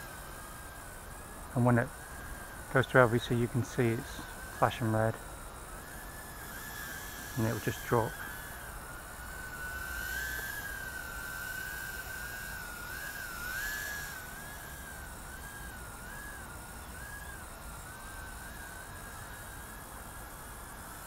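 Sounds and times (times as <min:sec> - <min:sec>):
mini drone motors whining: 0:00.0 - 0:21.0.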